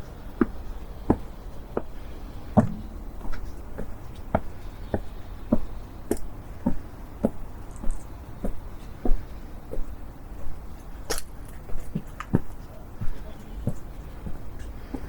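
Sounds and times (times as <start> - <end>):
footsteps walking: 0.4 - 15.0.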